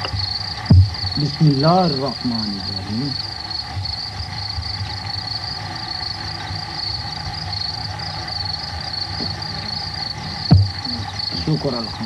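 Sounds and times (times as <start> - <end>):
crickets chirping: 0.0 - 12.0
low even hum: 0.0 - 12.0.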